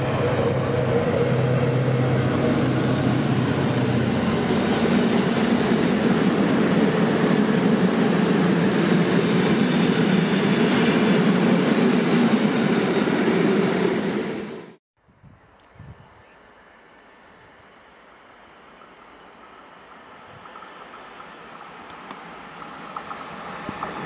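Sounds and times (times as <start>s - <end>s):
freight train wheels rumbling: 0.0s - 14.8s, 18.7s - 24.0s.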